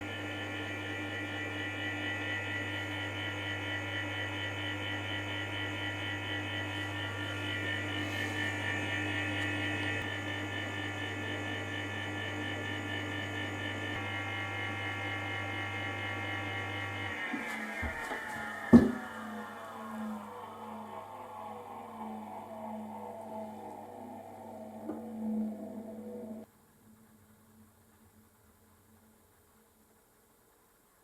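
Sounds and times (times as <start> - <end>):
fan humming: 0.0 - 26.5
multi-tone motor whine: 0.0 - 26.5.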